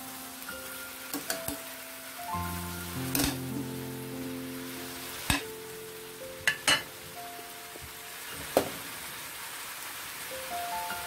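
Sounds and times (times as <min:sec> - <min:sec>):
background music with held notes: 0:00.0 - 0:08.6, 0:10.2 - 0:11.0
vegetables and meat sizzling in pan: 0:00.0 - 0:11.0.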